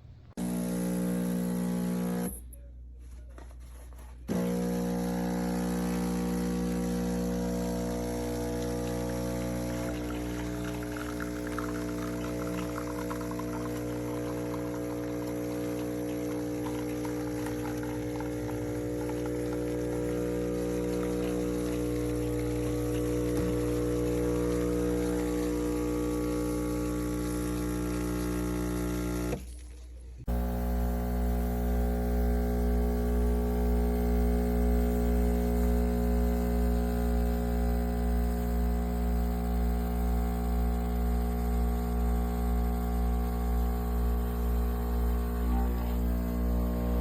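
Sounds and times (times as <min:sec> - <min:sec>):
espresso machine pump humming: 0:00.4 - 0:02.4, 0:04.3 - 0:29.4, 0:30.3 - 0:47.0.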